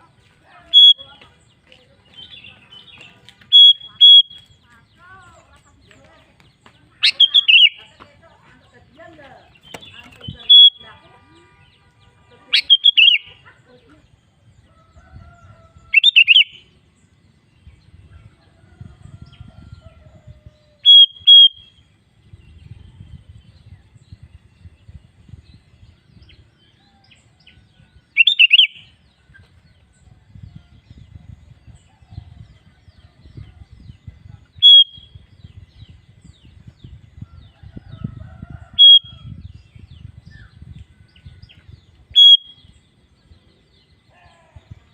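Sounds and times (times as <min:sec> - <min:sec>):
bird call phrases: 0:00.0 - 0:16.7, 0:18.4 - 0:22.0, 0:26.2 - 0:43.0.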